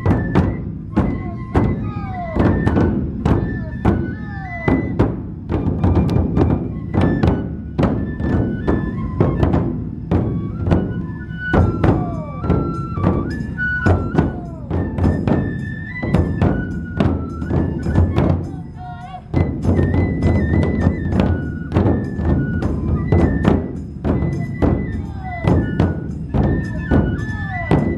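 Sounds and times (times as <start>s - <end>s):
bamboo flute melody: 0.0s - 27.9s
large taiko drums: 0.0s - 27.9s.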